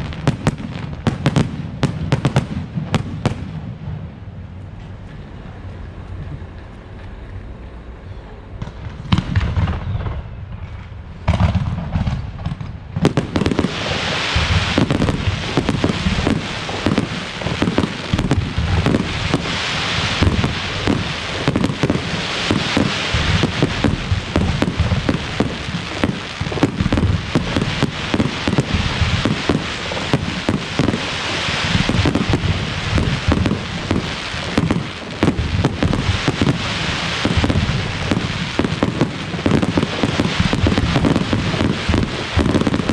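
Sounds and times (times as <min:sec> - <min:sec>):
fireworks bangs and crackling: 0:00.0 - 0:07.1, 0:08.6 - 0:42.9.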